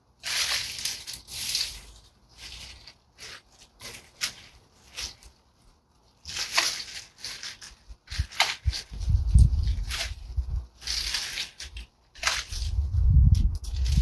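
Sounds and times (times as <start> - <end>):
dry leaves rustling: 0.0 - 14.0.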